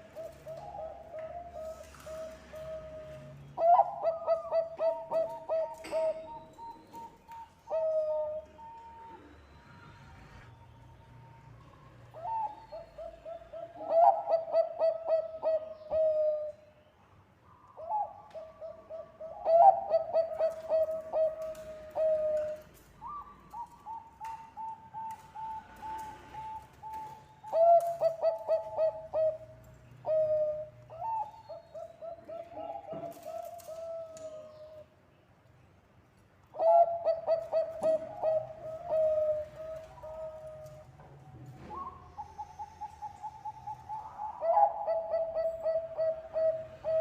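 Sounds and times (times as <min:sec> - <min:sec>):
dove cooing: 0:00.0 - 0:09.5, 0:12.1 - 0:16.6, 0:17.8 - 0:34.8, 0:36.6 - 0:41.0, 0:41.6 - 0:47.0.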